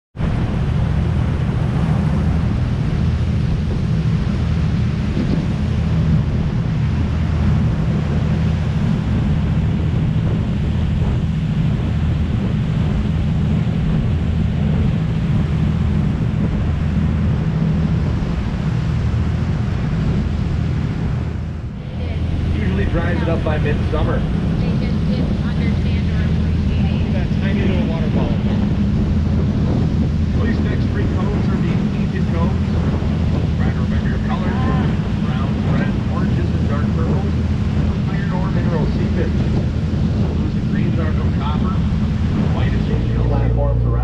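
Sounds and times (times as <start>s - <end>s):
boat engines droning: 0.2s - 44.0s
water rushing in boat wake: 0.2s - 44.0s
wind buffeting microphone: 0.2s - 44.0s.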